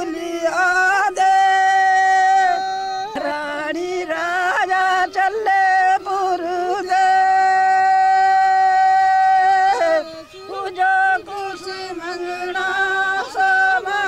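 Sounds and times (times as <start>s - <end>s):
woman singing folk song: 0.0s - 14.0s.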